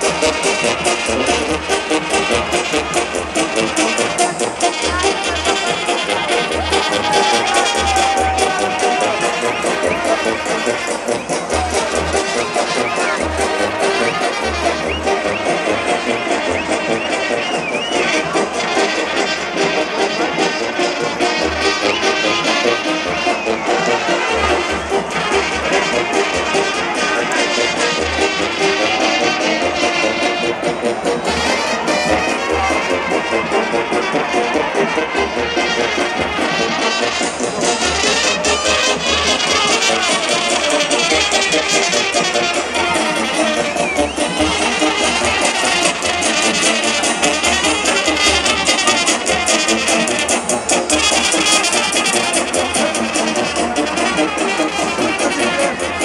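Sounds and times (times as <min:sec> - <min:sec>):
fast brass band music: 0:00.0 - 0:56.0.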